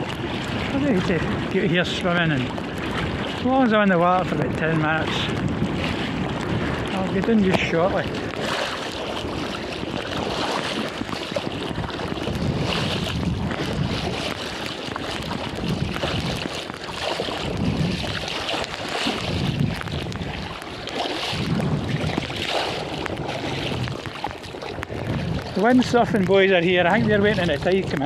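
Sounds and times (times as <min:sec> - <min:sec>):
sea water sloshing and splashing: 0:00.0 - 0:28.0
wind buffeting microphone: 0:00.0 - 0:28.0.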